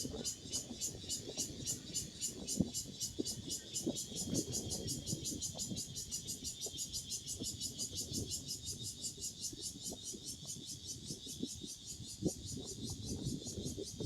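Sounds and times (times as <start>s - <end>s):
cicadas pulsing chorus: 0.0s - 14.0s
wind rustling in trees: 0.0s - 14.0s.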